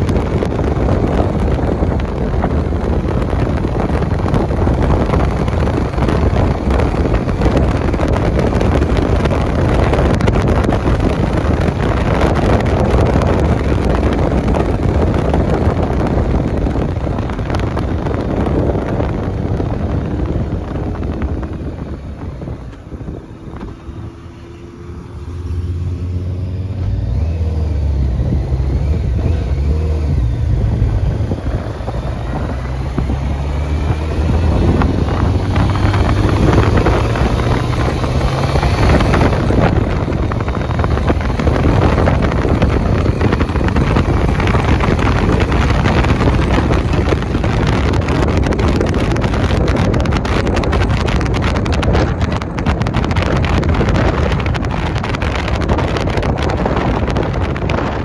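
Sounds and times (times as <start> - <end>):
motorcycle engine accelerating: 0.0 - 58.0
wind rushing over microphone: 0.0 - 58.0.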